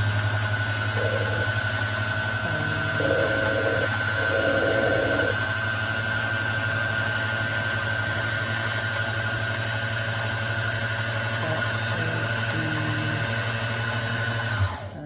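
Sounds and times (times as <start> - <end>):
sewing machine motor humming: 0.0 - 15.0.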